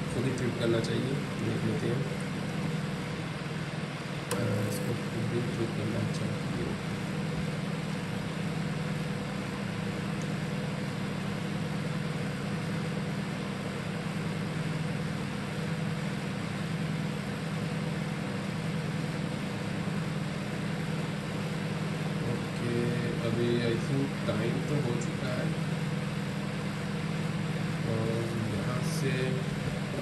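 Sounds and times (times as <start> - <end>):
microwave oven hum: 0.0 - 30.0.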